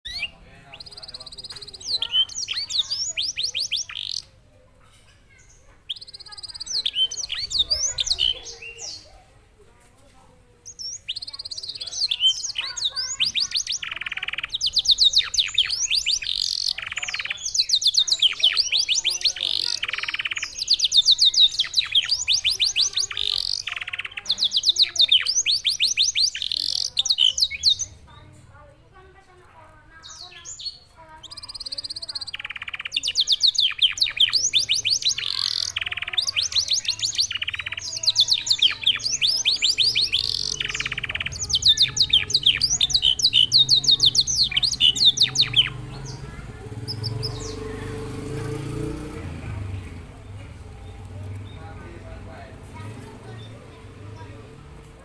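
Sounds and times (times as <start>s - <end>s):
canary singing trills: 0.0s - 9.6s, 10.4s - 55.0s.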